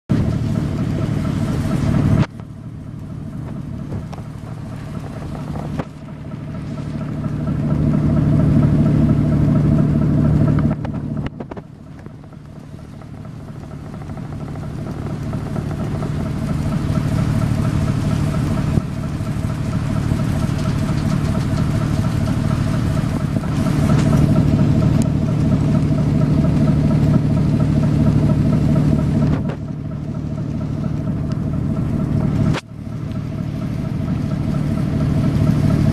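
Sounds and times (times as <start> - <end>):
boat diesel engine throbbing: 0.1 - 35.9.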